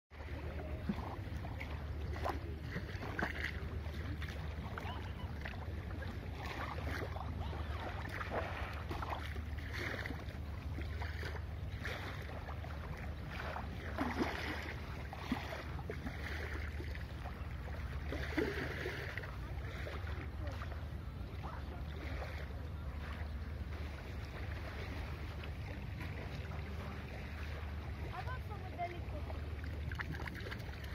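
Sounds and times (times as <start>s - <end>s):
small waves lapping shore: 0.1s - 30.9s.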